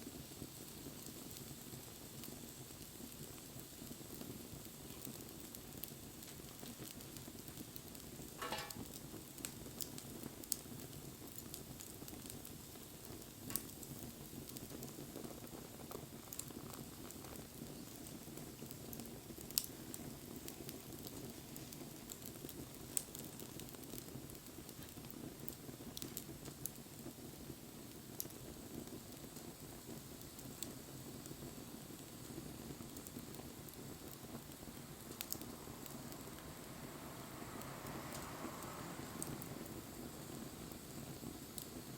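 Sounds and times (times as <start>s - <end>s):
fire crackling and popping: 0.0s - 41.9s
low rumble of flames: 0.0s - 41.9s.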